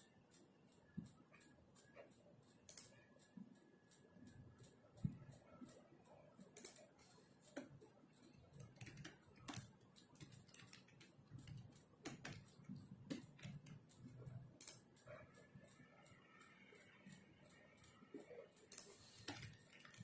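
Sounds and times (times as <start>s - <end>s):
keyboard typing: 0.8s - 20.0s.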